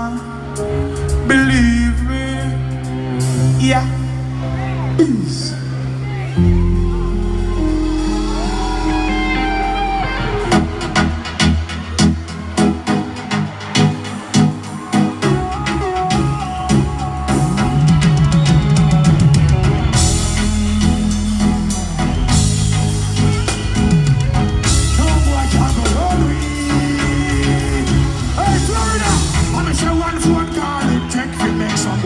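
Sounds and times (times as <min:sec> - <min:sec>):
live band music: 0:00.0 - 0:32.0.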